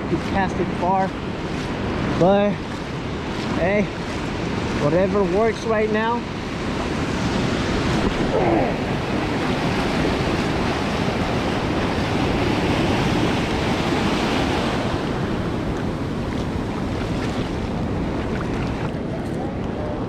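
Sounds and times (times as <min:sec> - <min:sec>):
ocean surf on beach: 0:00.0 - 0:20.0
wind buffeting microphone: 0:00.0 - 0:20.0.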